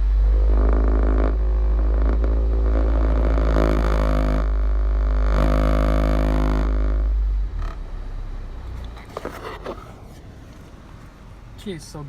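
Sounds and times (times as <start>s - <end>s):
car engine drone: 0.0s - 12.0s.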